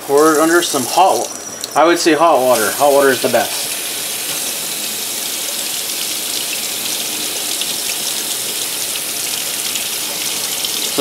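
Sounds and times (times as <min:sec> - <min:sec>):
tap water running into metal sink: 0:00.0 - 0:11.0.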